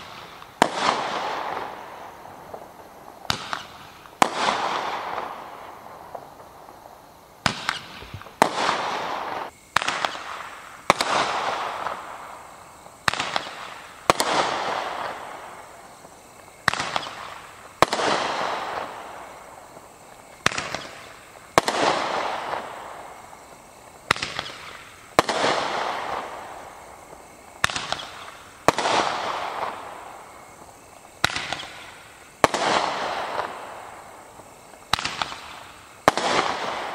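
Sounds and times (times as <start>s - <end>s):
firework hiss: 0.0s - 36.9s.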